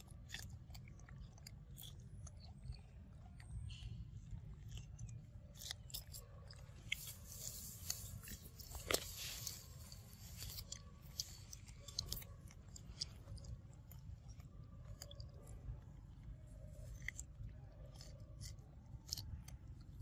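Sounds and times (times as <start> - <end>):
monkeys chewing corn crunches: 0.0 - 20.0.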